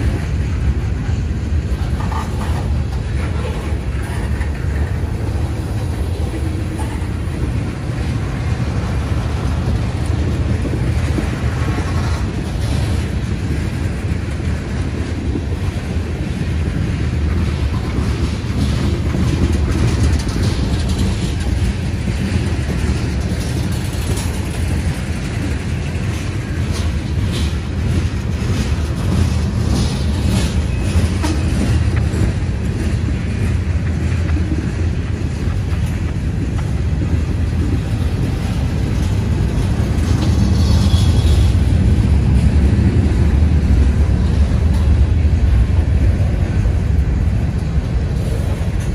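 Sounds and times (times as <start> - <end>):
freight train rumbling on rails: 0.0 - 48.9.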